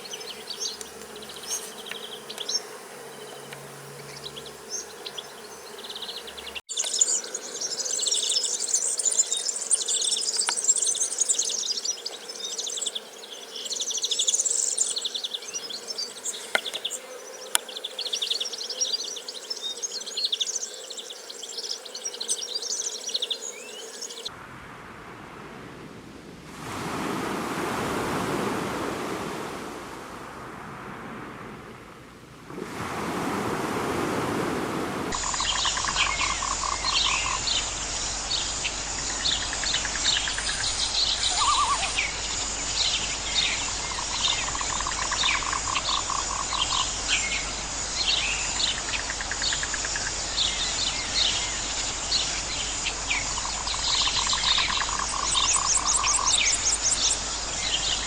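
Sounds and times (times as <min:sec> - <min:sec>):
insects buzzing and trilling: 0:00.0 - 0:24.4, 0:25.4 - 0:58.0.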